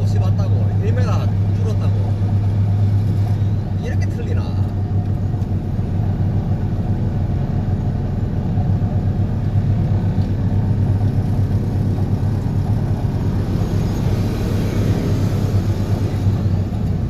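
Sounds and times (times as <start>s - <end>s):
vibro hammer low rumble: 0.0s - 17.0s.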